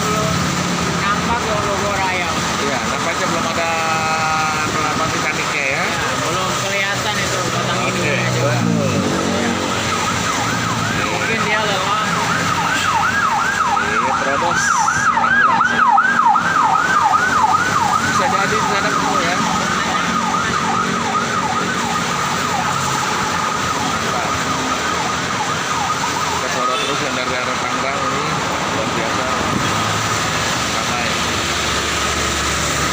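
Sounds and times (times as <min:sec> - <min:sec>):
street traffic: 0:00.0 - 0:32.9
siren yelping: 0:01.7 - 0:31.8.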